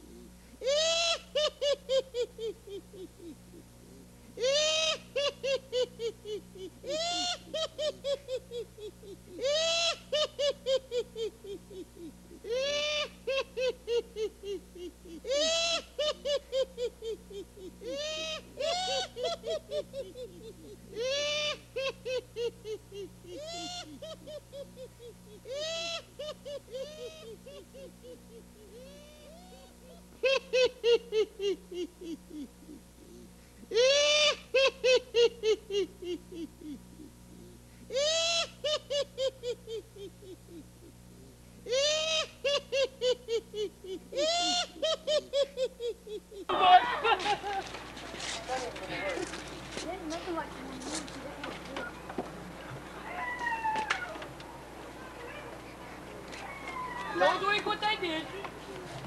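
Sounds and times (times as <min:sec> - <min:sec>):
spooky cry with laughing pulses: 0:00.0 - 0:47.7.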